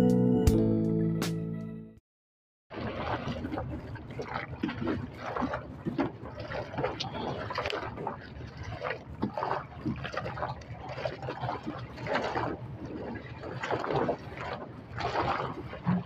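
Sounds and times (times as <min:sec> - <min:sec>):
water lapping against boat hull: 0:02.7 - 0:16.0.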